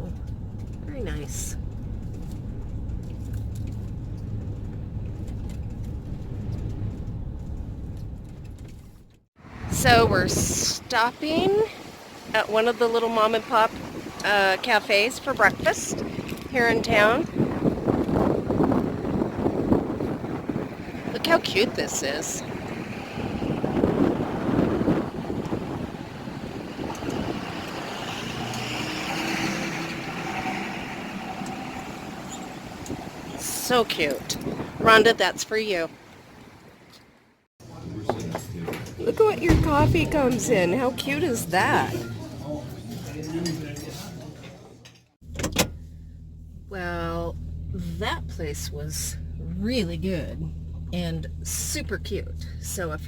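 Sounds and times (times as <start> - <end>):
van engine and tyres rumbling: 0.0 - 53.0.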